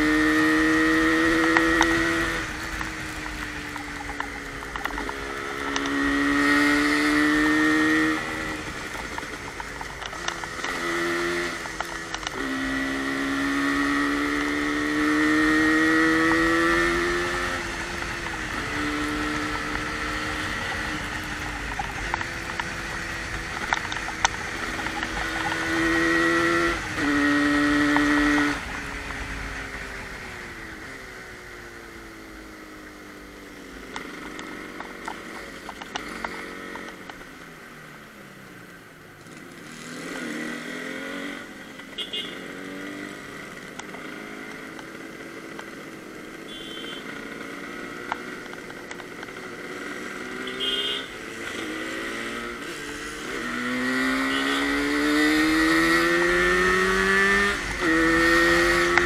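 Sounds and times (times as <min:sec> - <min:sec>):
motorcycle engine accelerating: 0:00.0 - 0:38.4, 0:39.2 - 0:59.0.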